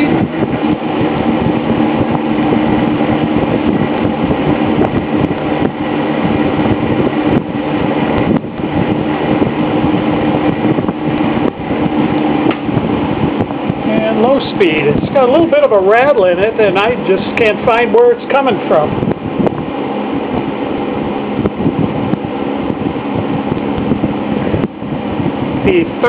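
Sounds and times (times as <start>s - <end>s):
fan air rushing: 0.0s - 26.0s
fan motor hum: 0.0s - 26.0s.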